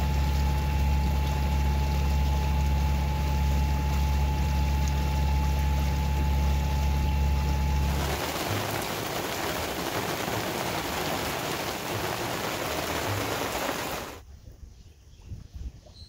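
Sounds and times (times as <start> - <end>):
rain on canopy and water: 0.0 - 14.2.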